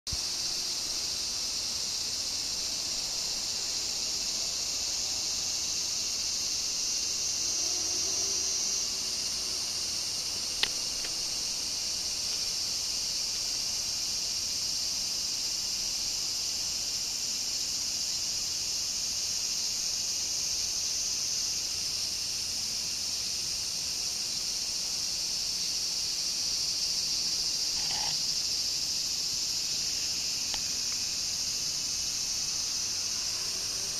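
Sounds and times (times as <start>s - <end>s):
insect chorus drone: 0.1s - 33.9s.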